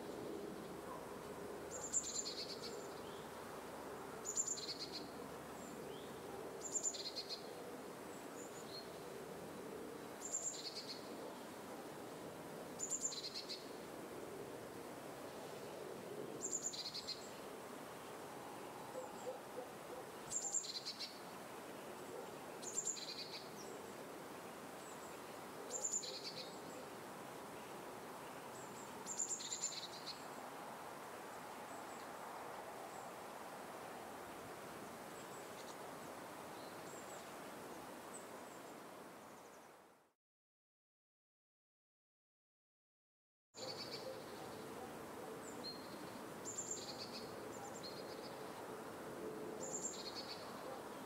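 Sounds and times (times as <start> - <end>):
background hiss: 0.0 - 40.1, 43.6 - 51.0.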